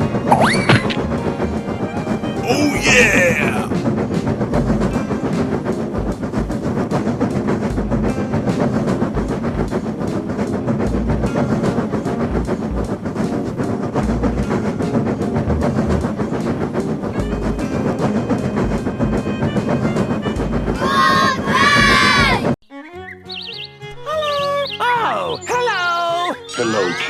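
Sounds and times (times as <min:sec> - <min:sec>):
train wheels clattering on rails: 0:00.0 - 0:22.6.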